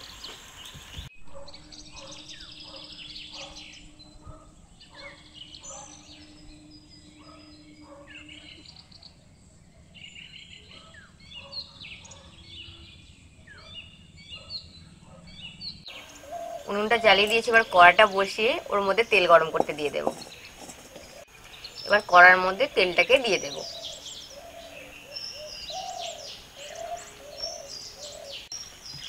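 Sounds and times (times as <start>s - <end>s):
birds chirping and calling: 0.0s - 29.0s
faint outdoor background: 0.0s - 29.0s.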